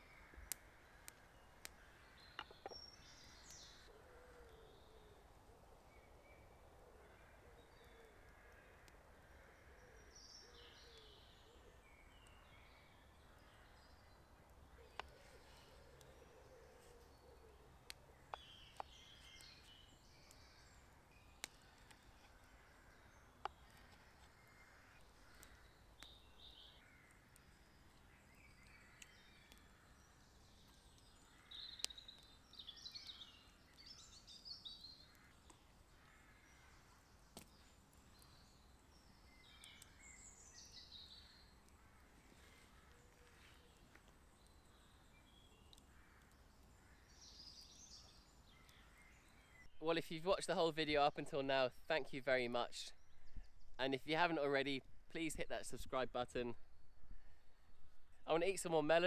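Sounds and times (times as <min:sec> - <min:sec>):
songbirds calling: 0:00.0 - 0:59.0.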